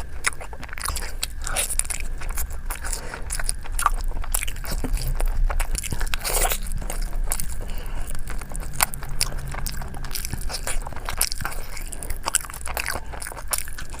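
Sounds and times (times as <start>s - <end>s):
food crunching: 0.0s - 14.0s
person chewing food: 0.0s - 14.0s.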